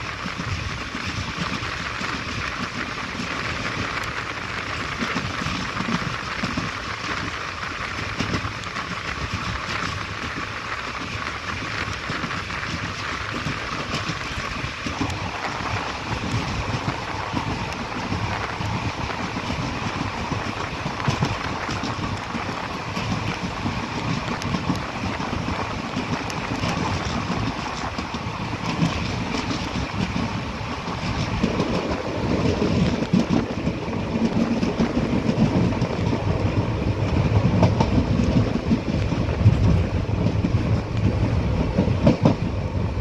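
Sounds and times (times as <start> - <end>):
train wheels on rails: 0.0 - 43.0
wind on microphone: 0.0 - 43.0.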